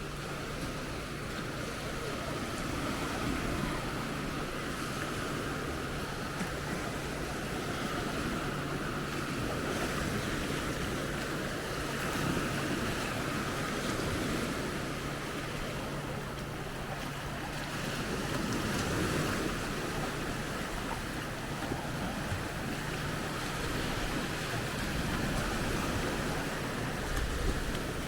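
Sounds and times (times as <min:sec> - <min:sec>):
small waves lapping on sand: 0:00.0 - 0:28.0.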